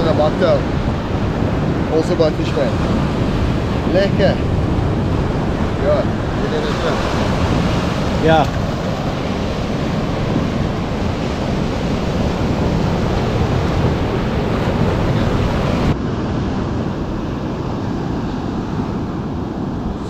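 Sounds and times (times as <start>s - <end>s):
surf washing on beach: 0.0s - 20.0s
wind buffeting microphone: 0.0s - 20.0s.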